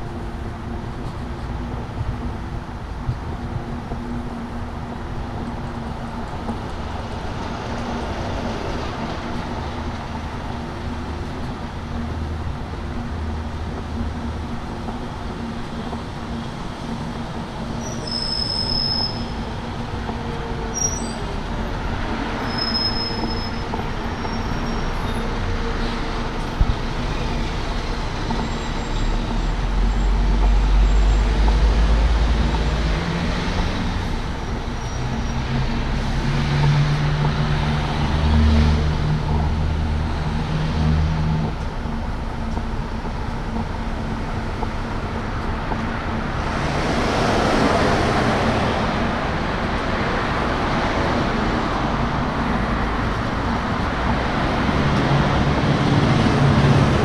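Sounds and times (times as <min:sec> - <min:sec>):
street traffic passing: 0:00.0 - 0:57.0.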